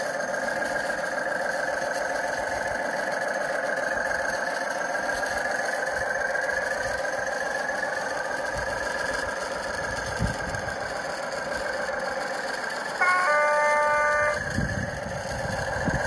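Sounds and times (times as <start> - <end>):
diesel engine from small speaker: 0.0 - 16.0.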